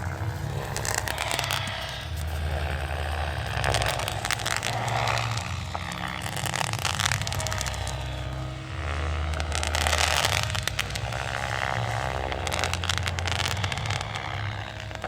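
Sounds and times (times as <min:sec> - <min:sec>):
fireworks crackling and popping: 0:00.0 - 0:15.0
model helicopter rotor hum: 0:00.0 - 0:15.0.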